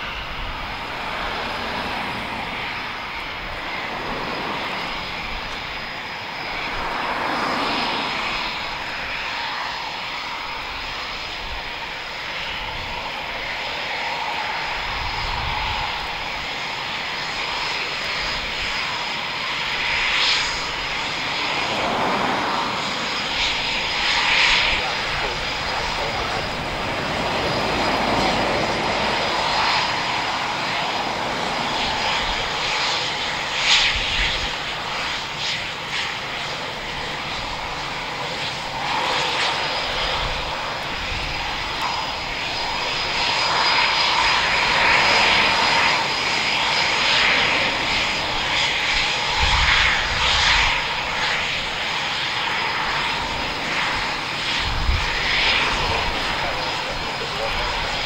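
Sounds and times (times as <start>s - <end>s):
high jet whine: 0.0s - 58.0s
jet engines roaring: 0.0s - 58.0s.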